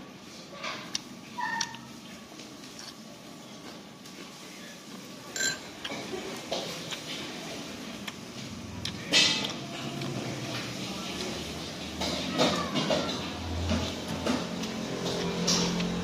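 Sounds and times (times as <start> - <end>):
person chewing and eating: 0.4 - 12.4, 13.7 - 16.0.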